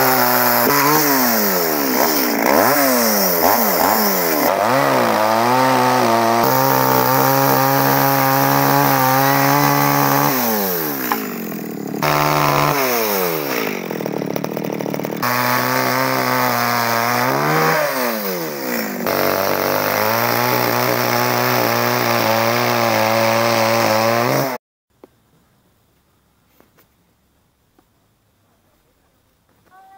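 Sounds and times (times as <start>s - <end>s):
chainsaw cutting wood: 0.0s - 24.6s.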